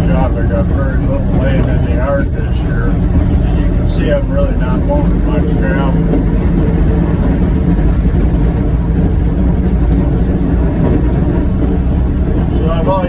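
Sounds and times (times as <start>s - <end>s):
plow blade pushing snow: 0.0s - 13.0s
utility vehicle engine running: 0.0s - 13.0s.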